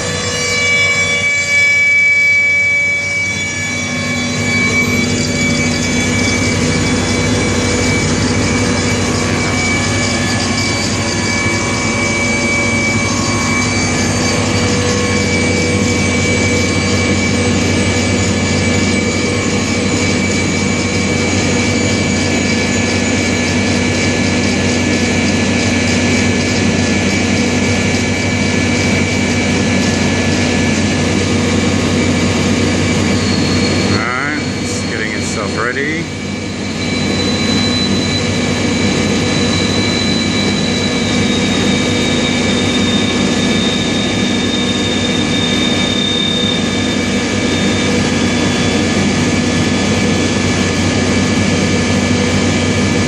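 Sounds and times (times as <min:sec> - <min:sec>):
air compressor whining: 0:00.0 - 0:53.0.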